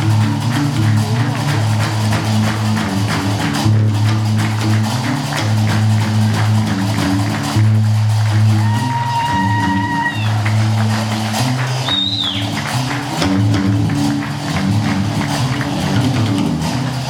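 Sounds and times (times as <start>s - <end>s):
plucked bass lute notes: 0.0s - 17.0s.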